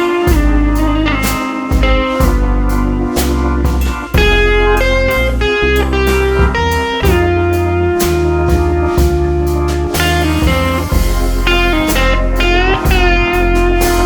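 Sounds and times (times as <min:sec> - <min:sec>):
upbeat guitar music with drums: 0:00.0 - 0:14.0.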